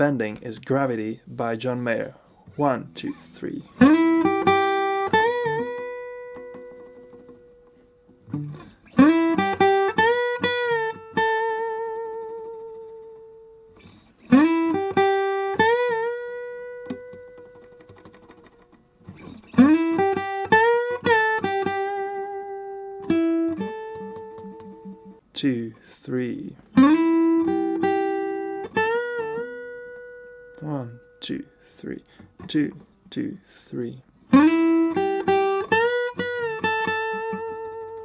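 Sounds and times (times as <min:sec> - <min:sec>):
guitar lick with string bends: 0:02.3 - 0:25.3, 0:26.6 - 0:32.9, 0:34.3 - 0:38.0.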